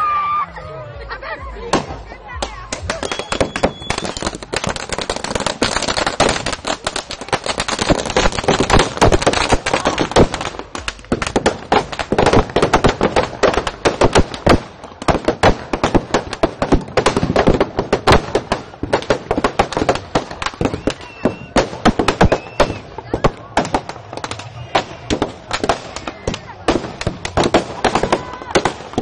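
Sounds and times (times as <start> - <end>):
firecrackers crackling: 1.6 - 29.0.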